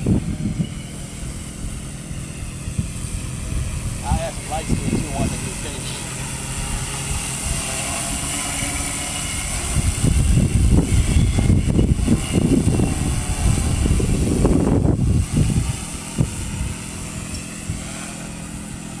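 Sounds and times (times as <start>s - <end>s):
drone propellers whining: 0.0s - 19.0s
wind buffeting microphone: 0.0s - 19.0s.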